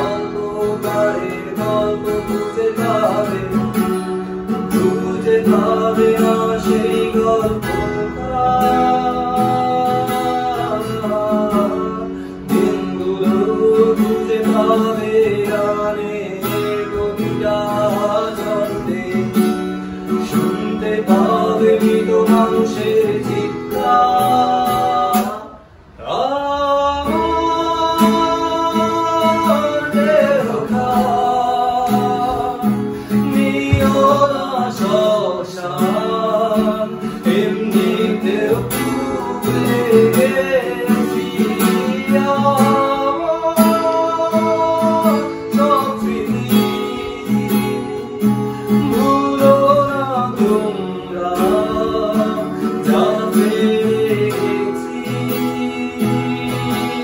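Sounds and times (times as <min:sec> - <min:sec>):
man singing: 0:00.0 - 0:57.0
strummed acoustic guitar: 0:00.0 - 0:57.0.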